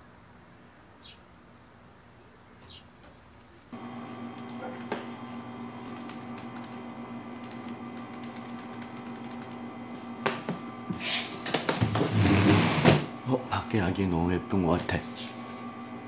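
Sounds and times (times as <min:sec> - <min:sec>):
electrical hum with fixed tones: 0:02.2 - 0:16.0.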